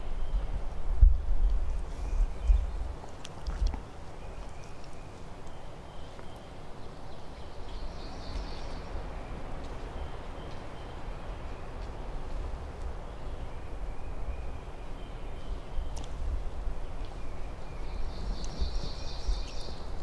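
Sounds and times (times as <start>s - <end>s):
wind rumbling on microphone: 0.0s - 6.2s, 6.8s - 20.0s.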